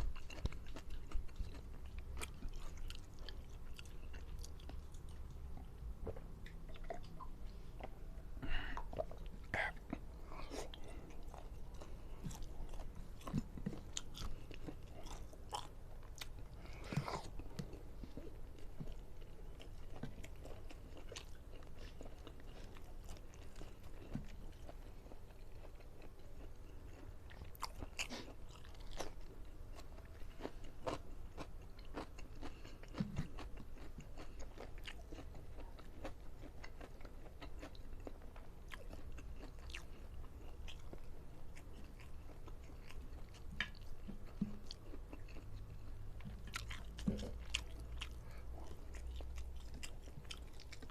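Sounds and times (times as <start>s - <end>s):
chewing food: 0.0s - 50.9s
food crunching: 0.0s - 50.9s.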